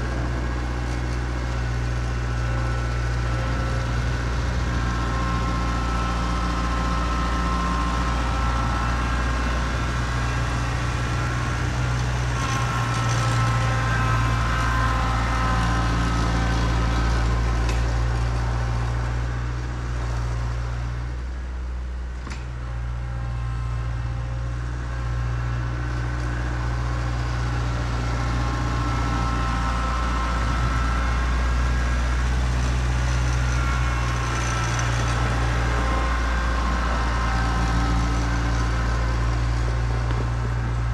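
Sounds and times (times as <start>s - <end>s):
vehicle engine idling: 0.0s - 40.9s.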